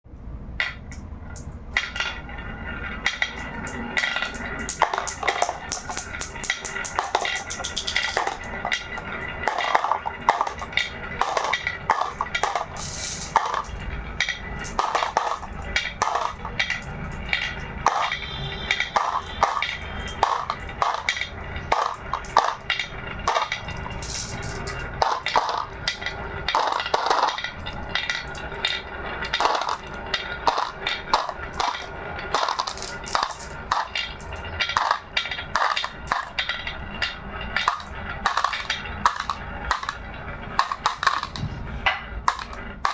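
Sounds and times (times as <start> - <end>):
marbles clacking down wooden run: 0.6 - 42.9.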